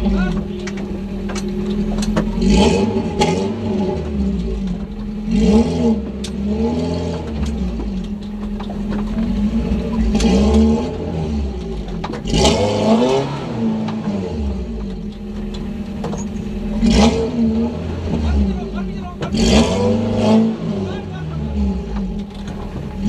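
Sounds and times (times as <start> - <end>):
off-road engine revving: 0.0 - 23.0.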